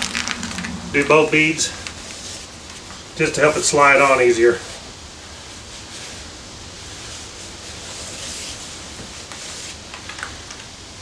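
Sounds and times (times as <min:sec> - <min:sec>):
paper towel rubbing on rubber: 0:00.0 - 0:10.4.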